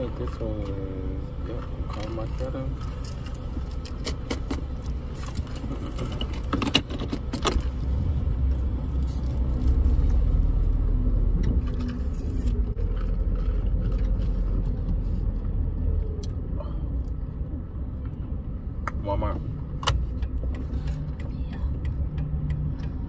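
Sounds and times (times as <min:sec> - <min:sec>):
car engine rumble: 0:00.0 - 0:23.0
road noise inside car: 0:00.0 - 0:23.0.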